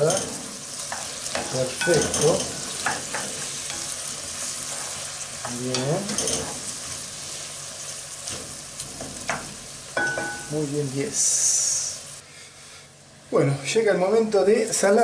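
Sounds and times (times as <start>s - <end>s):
vegetables sizzling in a pot: 0.0s - 12.2s.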